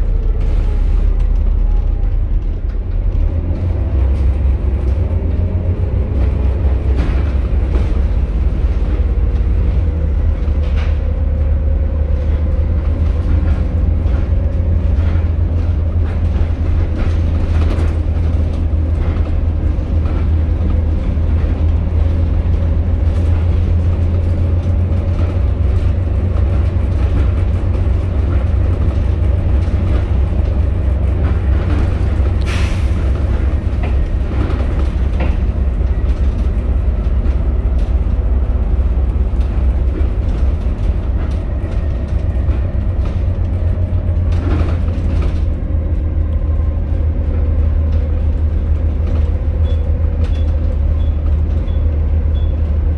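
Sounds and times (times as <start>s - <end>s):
bus diesel engine drone: 0.0s - 52.9s
road rumble: 0.0s - 52.9s.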